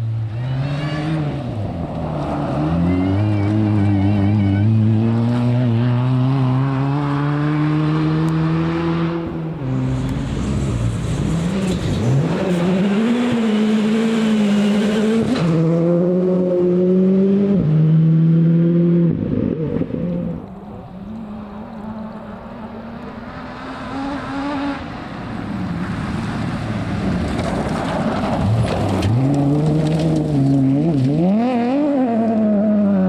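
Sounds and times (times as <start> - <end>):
rally car engine at full throttle: 0.0 - 33.0
rush of car passing: 0.0 - 33.0.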